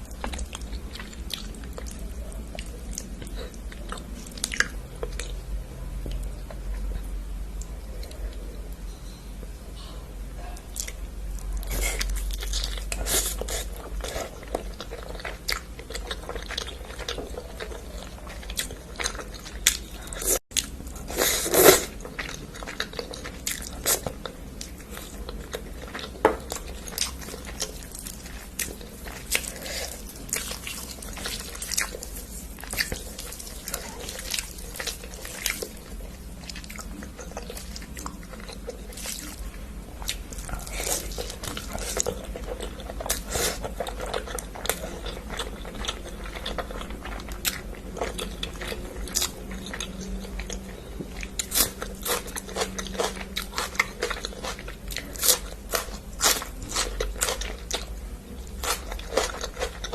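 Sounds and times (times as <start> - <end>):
biting and chewing with crunches: 11.6 - 59.9.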